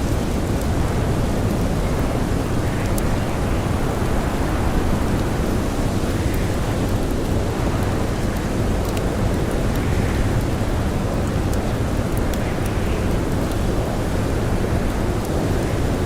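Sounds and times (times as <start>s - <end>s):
blizzard wind blowing: 0.0s - 16.0s
campfire crackling: 0.0s - 16.0s.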